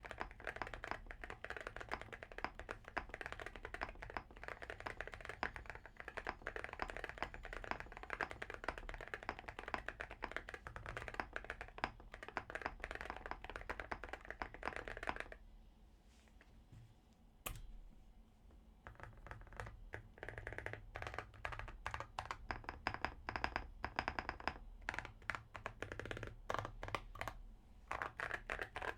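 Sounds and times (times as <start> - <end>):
mechanical keyboard typing: 0.0 - 15.4, 18.9 - 28.9.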